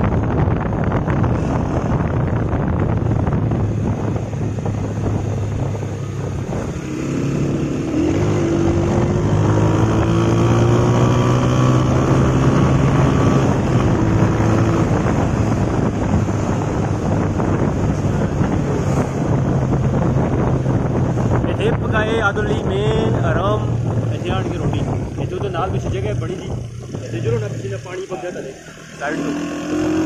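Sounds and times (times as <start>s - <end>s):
wind on microphone: 0.0s - 27.6s.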